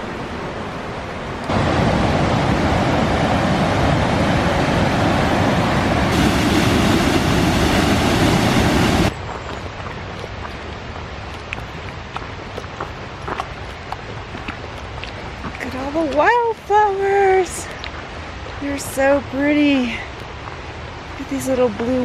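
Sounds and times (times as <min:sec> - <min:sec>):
rushing white water: 0:00.0 - 0:22.0.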